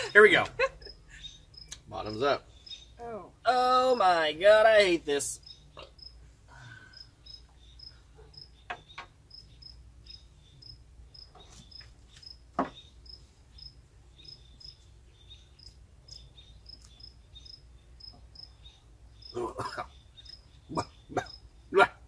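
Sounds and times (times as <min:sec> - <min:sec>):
crickets chirping: 0:00.0 - 0:03.0, 0:03.8 - 0:21.6.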